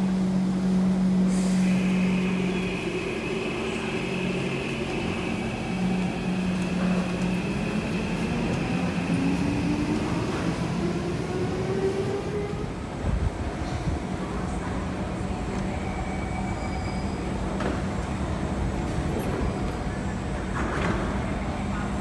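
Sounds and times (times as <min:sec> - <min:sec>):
high whine of train: 0:00.0 - 0:22.0.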